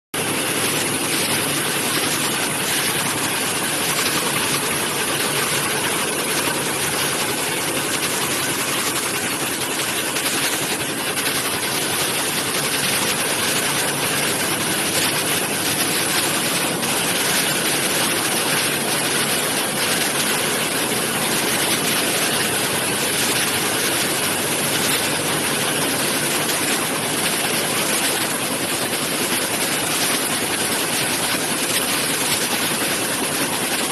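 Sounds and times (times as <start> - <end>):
weaving loom running: 0.2 - 33.9.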